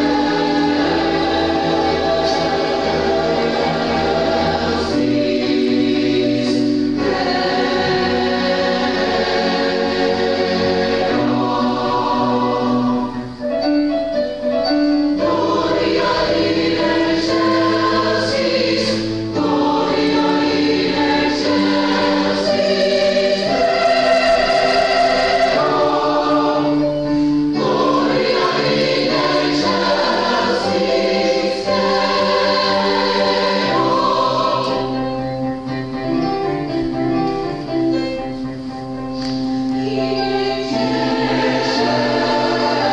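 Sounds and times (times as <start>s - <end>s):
choir singing: 0.0s - 14.0s, 15.1s - 36.7s, 39.5s - 42.9s.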